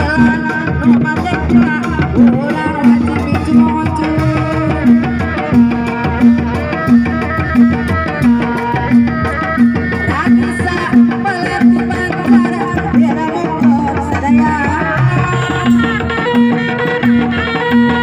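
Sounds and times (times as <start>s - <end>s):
pitched drum strokes: 0.0s - 18.0s.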